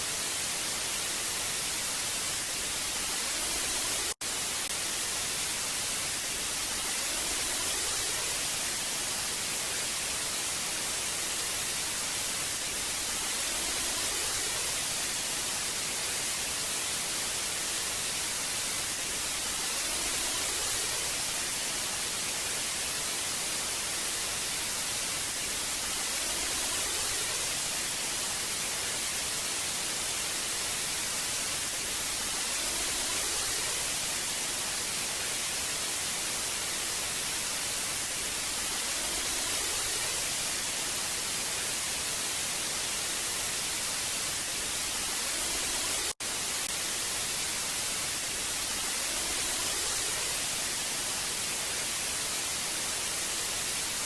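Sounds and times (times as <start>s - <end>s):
tv static hiss: 0.0s - 54.0s.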